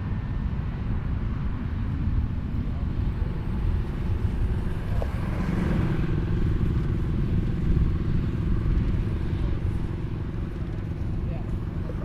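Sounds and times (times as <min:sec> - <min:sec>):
combine engine droning: 0:00.0 - 0:12.0.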